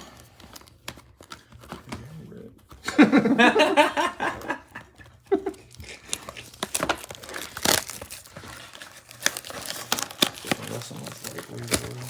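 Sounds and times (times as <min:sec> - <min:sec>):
foil wrappers crinkling: 0:00.0 - 0:03.1, 0:03.8 - 0:12.0.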